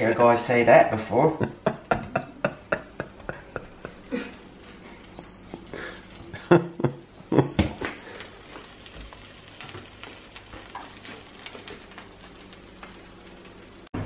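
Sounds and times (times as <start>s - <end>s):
omelet sizzling: 1.4s - 14.0s.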